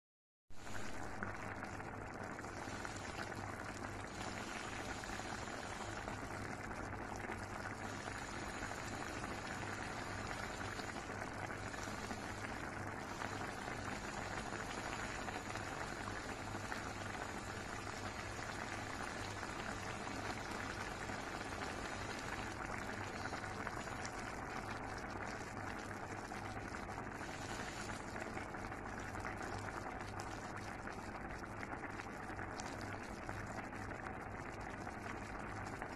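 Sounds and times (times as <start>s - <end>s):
broth boiling in a pot: 0.5s - 35.9s.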